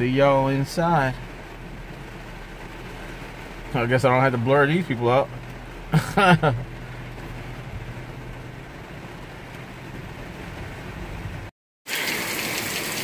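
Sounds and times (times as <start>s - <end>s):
vehicle engine idling: 0.0s - 11.5s
heavy rain on windshield: 0.0s - 13.0s.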